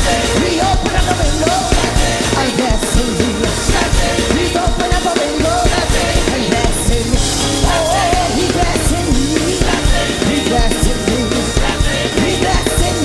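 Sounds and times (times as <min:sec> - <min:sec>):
drum kit beat: 0:00.0 - 0:13.0
live gospel band music: 0:00.0 - 0:13.0.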